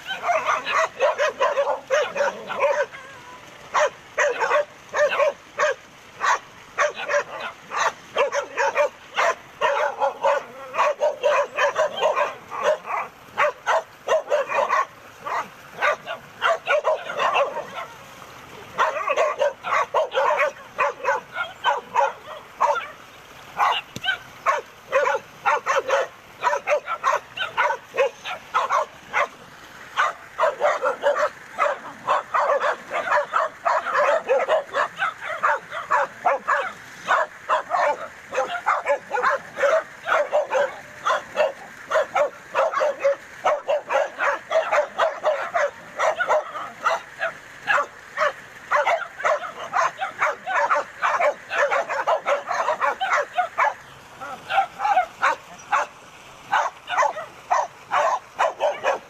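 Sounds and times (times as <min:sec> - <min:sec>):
dog barking and yapping: 0:00.0 - 0:18.0, 0:18.7 - 0:23.0, 0:23.6 - 0:29.4, 0:30.0 - 0:59.0.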